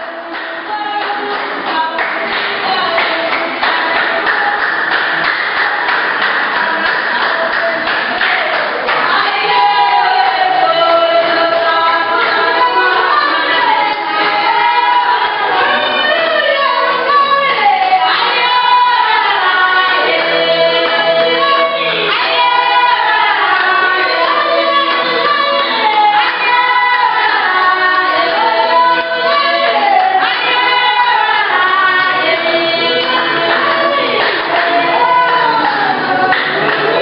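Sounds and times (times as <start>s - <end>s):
women singing in chorus: 0.0s - 37.0s.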